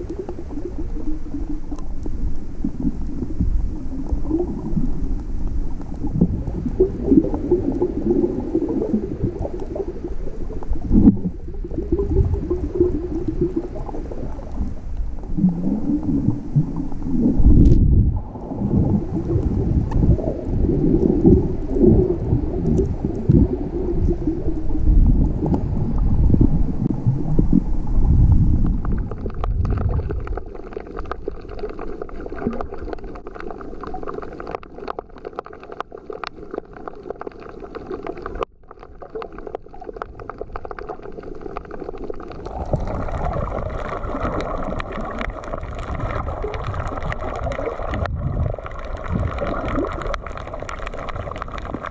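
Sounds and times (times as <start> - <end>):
underwater clicks and crackles: 0.0 - 51.9
underwater rumbling and sloshing: 0.0 - 51.9.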